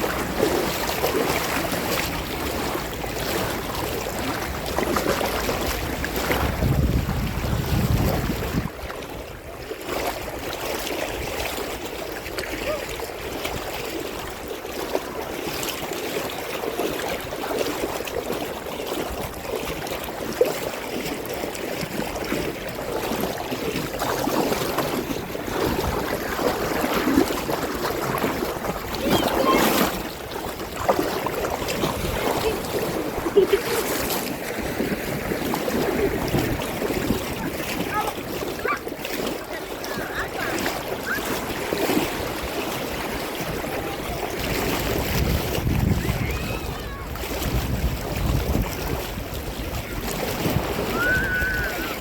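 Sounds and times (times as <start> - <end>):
small waves lapping: 0.0 - 52.0
surges of splashing: 0.0 - 52.0.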